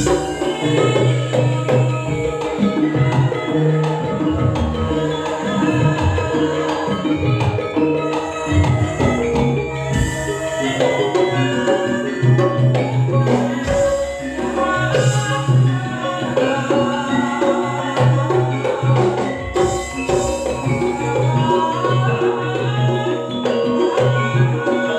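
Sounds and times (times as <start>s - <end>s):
ensemble music with percussion: 0.0s - 24.9s.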